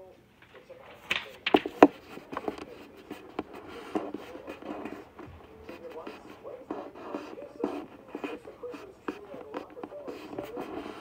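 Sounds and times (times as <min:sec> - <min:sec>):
faint background voice: 0:00.0 - 0:11.0
paper rustling and crinkling: 0:00.4 - 0:11.0.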